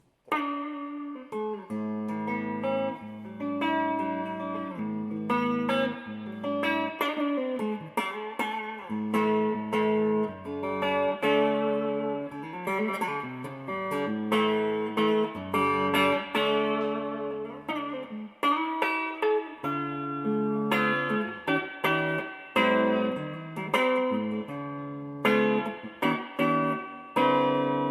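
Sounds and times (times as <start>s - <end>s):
electric guitar playing: 0.0s - 27.9s.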